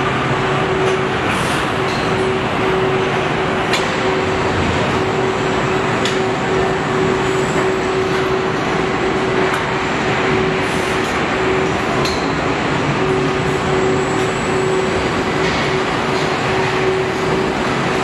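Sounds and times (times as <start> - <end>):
factory machinery hum: 0.0 - 18.0.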